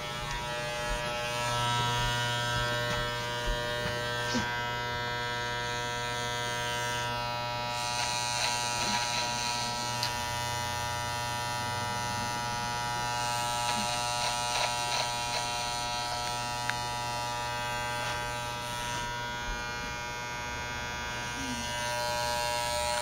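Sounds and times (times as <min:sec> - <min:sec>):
electric hair clippers buzzing: 0:00.0 - 0:23.0.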